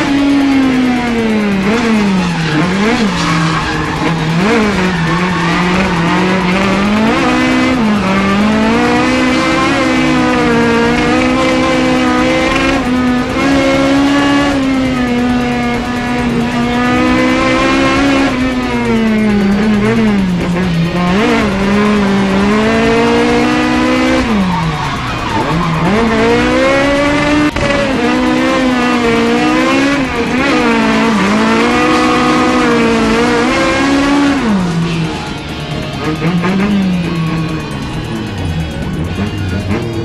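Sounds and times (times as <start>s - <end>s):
car engine revving hard: 0.0s - 40.0s
tires squealing: 0.0s - 40.0s.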